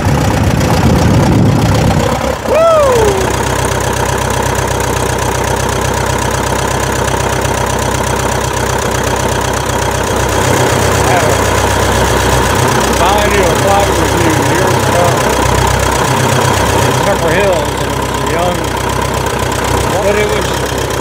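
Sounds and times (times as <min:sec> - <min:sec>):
small airplane engine idling: 0:00.0 - 0:21.0.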